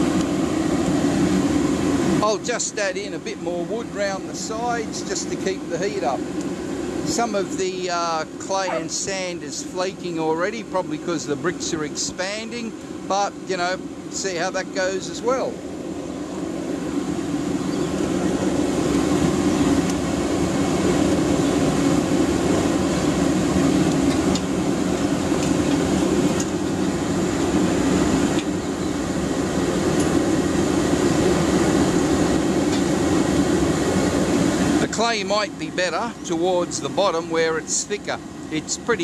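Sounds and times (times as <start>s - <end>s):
fire roaring under forced air: 0.0s - 39.0s.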